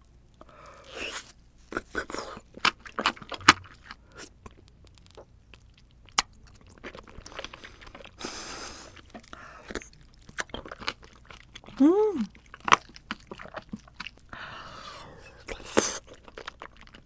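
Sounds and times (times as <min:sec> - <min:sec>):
crunching and chewing: 0:00.3 - 0:17.0.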